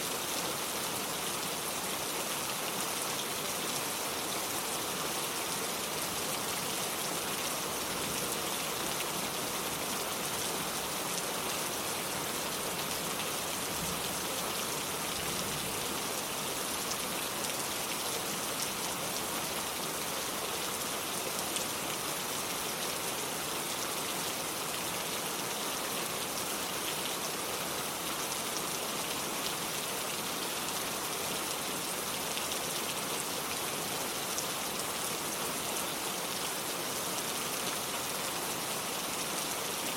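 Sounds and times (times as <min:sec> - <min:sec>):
steady rain hiss: 0:00.0 - 0:39.9
raindrops on wood and water: 0:00.1 - 0:39.9.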